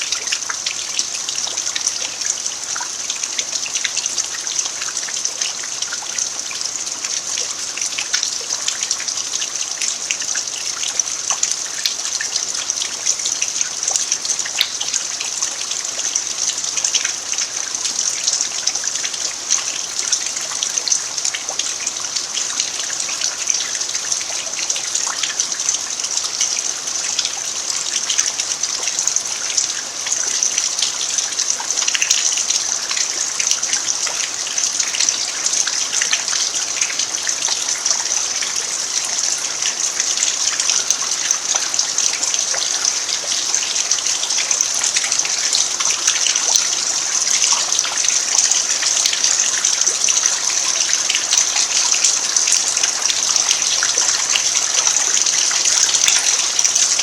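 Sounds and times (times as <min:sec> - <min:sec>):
rain pattering on dirt: 0:00.0 - 0:57.0.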